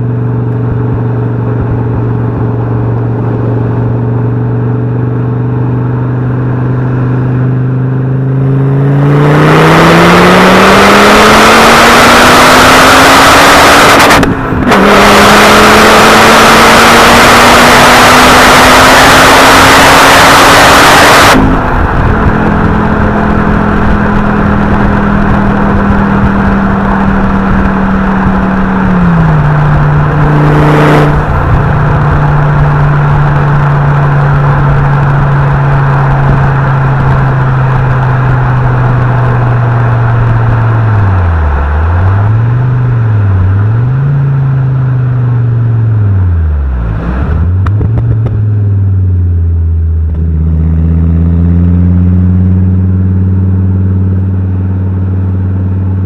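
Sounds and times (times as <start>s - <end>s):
turbo car engine revving: 0.0s - 56.0s.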